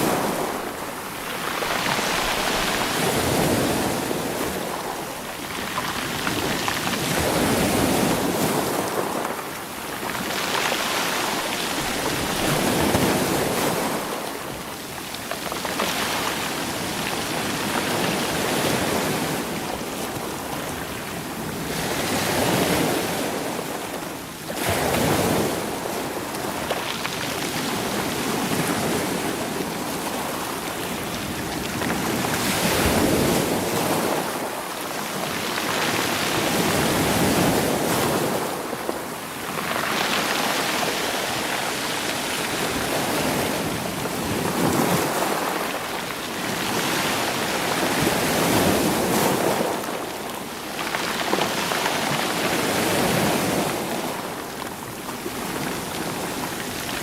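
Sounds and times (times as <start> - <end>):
waves tumbling shore pebbles: 0.0 - 57.0.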